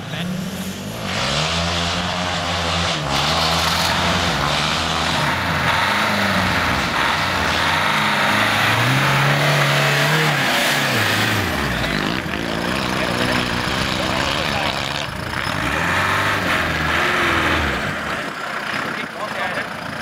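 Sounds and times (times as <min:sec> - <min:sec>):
engine revving: 0:00.0 - 0:20.0
tyres churning mud: 0:00.0 - 0:20.0.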